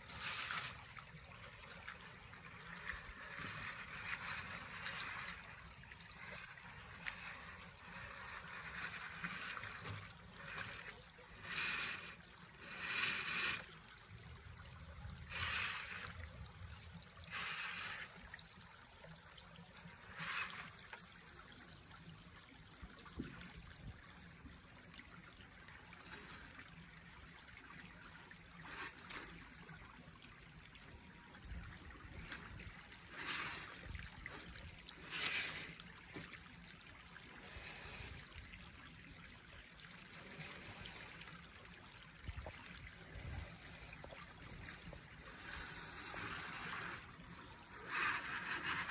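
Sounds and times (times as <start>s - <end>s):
tyres splashing through water: 0.0s - 21.0s, 25.6s - 48.9s
creek water running: 0.0s - 48.9s.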